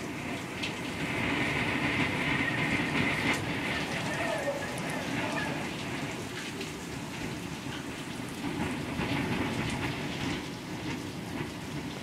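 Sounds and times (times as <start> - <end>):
heavy rain: 0.0 - 12.0
strong wind: 0.0 - 12.0
ticks of raindrops: 0.0 - 12.0.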